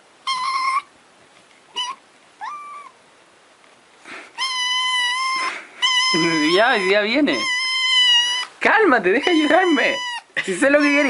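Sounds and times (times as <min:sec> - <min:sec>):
kitten mewing: 0:00.2 - 0:00.9, 0:01.7 - 0:03.0, 0:04.1 - 0:11.0.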